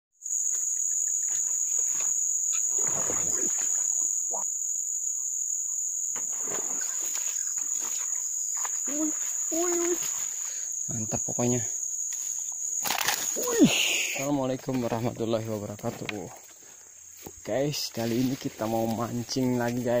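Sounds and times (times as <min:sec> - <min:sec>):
high-pitched insect drone: 0:00.2 - 0:20.0.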